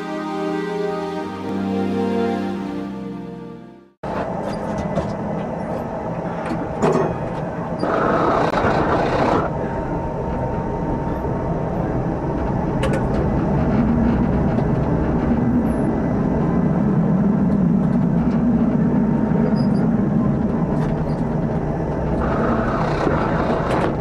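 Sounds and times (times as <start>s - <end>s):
tram wheels rumbling: 4.0s - 24.0s.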